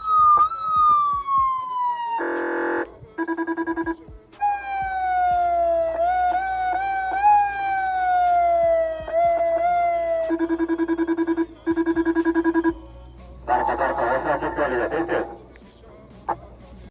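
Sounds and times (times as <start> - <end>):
electronic vehicle siren: 0.0 - 15.4.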